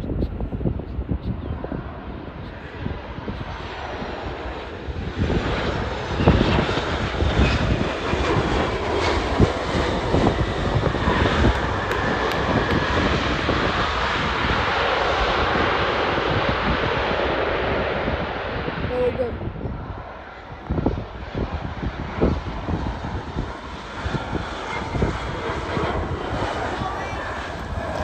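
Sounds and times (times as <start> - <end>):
airliner engines roaring: 0.0 - 28.0
wind buffeting microphone: 0.0 - 28.0.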